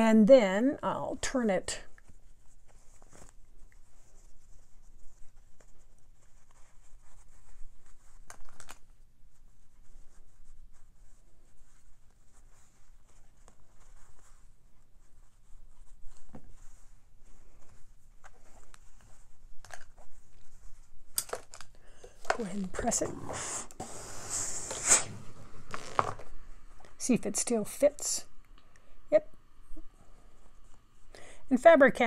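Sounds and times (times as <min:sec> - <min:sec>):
hands rustling fabric: 0:01.3 - 0:27.7.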